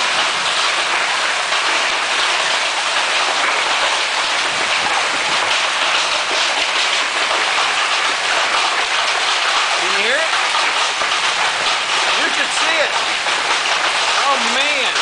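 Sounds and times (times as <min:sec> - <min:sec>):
hailstones hammering down: 0:00.0 - 0:15.0.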